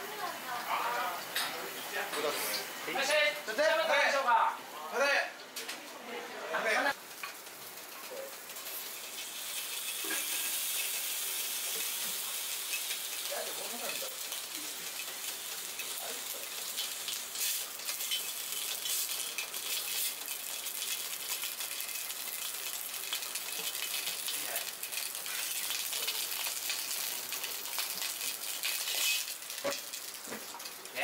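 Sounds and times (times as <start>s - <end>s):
meat sizzling in a wok: 0.0s - 5.2s, 6.6s - 31.0s.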